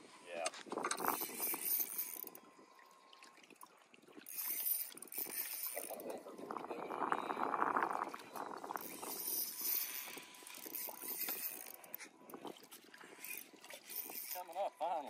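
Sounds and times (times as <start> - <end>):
fishing reel ticking: 0.8 - 2.4, 4.2 - 15.0.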